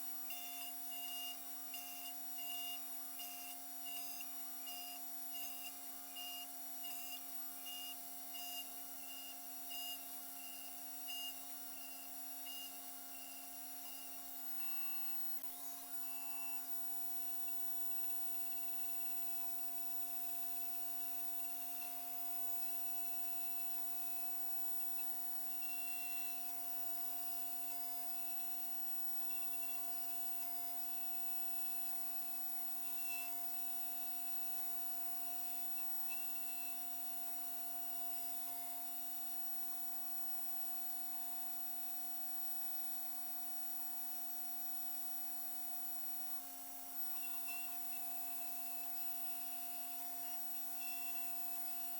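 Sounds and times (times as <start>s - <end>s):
constant hiss: 0.0s - 51.9s
machine motor whine: 0.0s - 51.9s.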